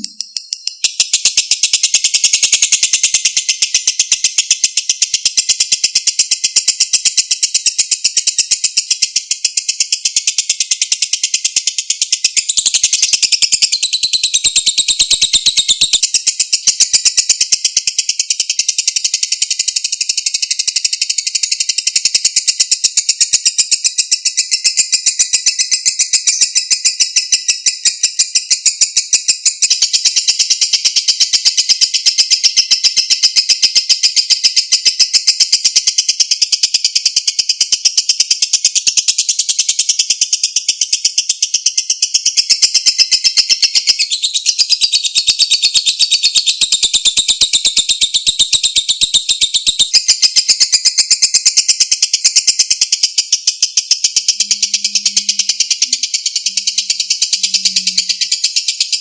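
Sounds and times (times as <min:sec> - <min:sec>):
bird chattering trill: 0:00.0 - 0:59.0.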